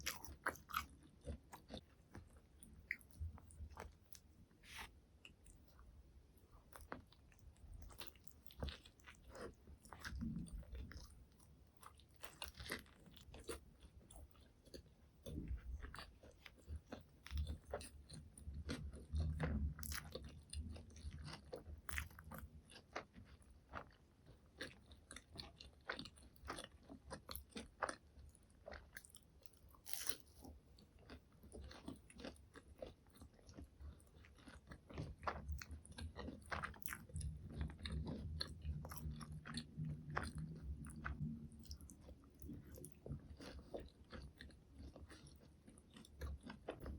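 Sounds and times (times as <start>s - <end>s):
crunching and chewing food: 0.0s - 46.9s.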